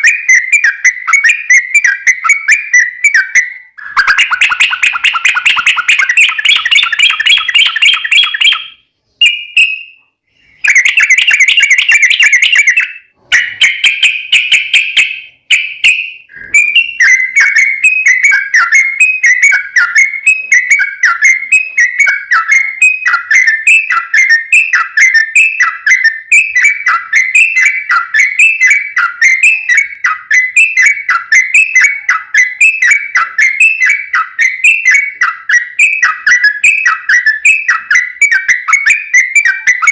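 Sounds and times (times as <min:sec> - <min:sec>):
bird trills and whistled notes: 0:00.0 - 0:39.9.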